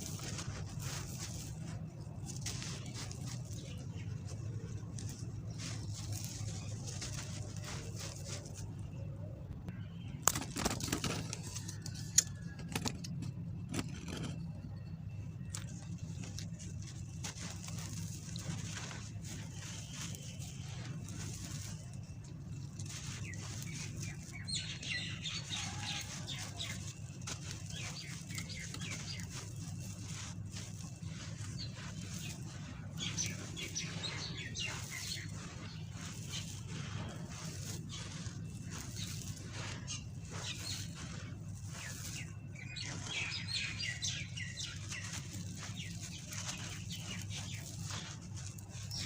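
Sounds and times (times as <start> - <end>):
small birds chirping: 0.0 - 12.6, 13.2 - 49.0
dry sand-cement crumbling: 0.0 - 49.0
steady low hum: 0.0 - 49.0.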